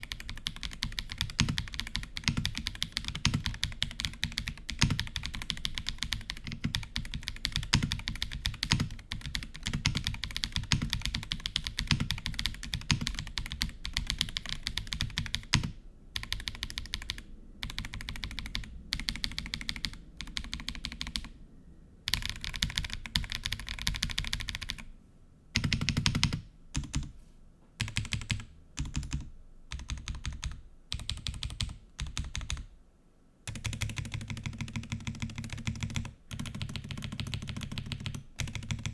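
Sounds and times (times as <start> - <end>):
fast typing on mechanical keyboard: 0.0 - 21.3, 22.1 - 24.9, 25.6 - 27.1, 27.8 - 32.7, 33.5 - 38.9.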